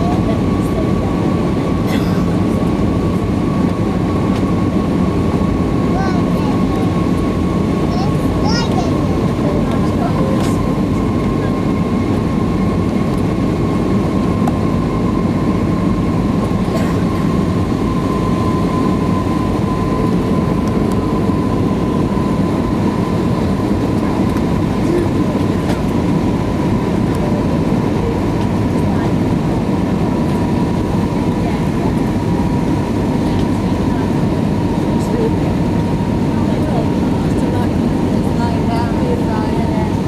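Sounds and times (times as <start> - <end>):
engine and airflow rush: 0.0 - 40.0
engine whine: 0.0 - 40.0.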